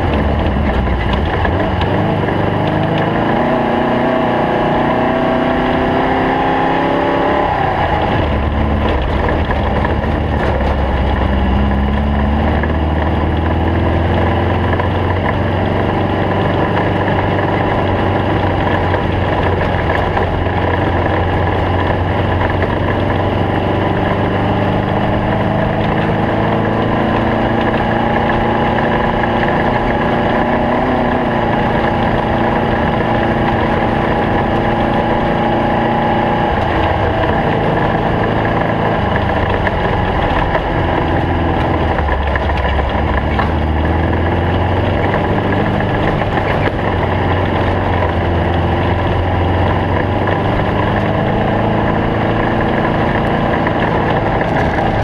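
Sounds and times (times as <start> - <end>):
race car engine running: 0.0 - 55.0.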